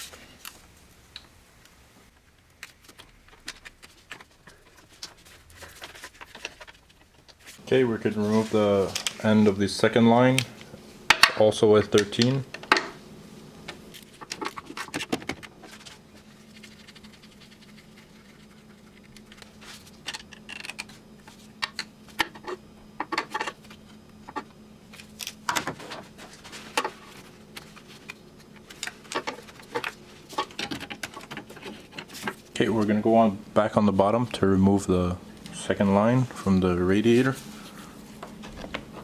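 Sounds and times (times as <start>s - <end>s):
faint hum: 7.4s - 39.0s.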